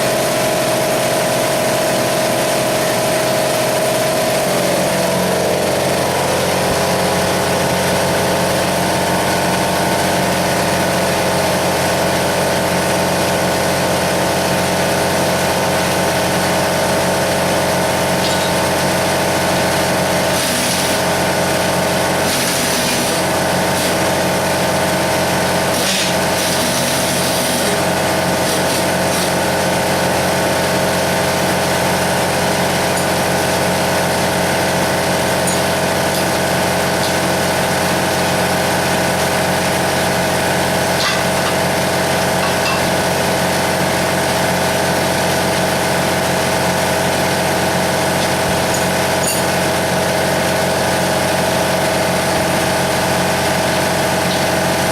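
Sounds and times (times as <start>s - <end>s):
air compressor motor hum: 0.0s - 54.9s.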